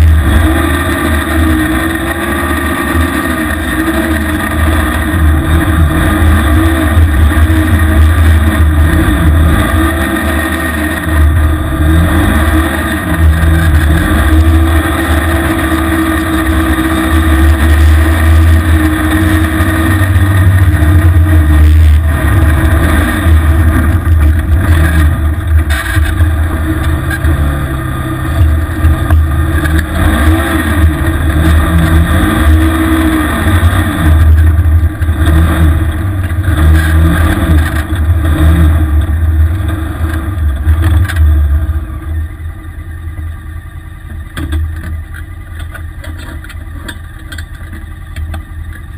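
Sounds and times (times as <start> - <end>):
small vehicle engine revving: 0.0 - 42.2.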